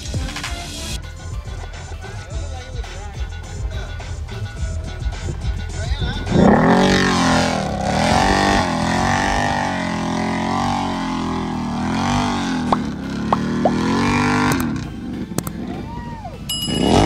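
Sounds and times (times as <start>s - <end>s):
atv engine revving: 1.0s - 17.0s.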